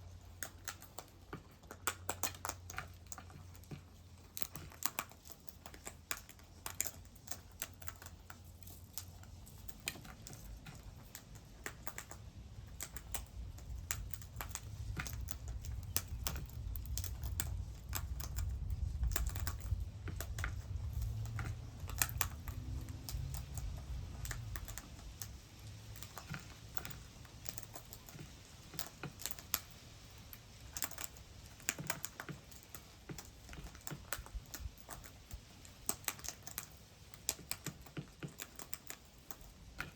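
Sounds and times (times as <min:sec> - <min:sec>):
birds pecking at seed: 0:00.0 - 0:39.9.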